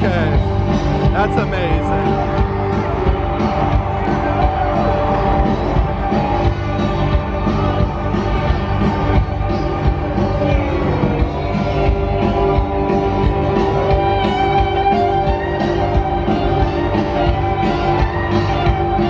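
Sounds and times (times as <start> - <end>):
electric guitar: 0.0 - 19.0
steady drum beat: 0.0 - 19.0.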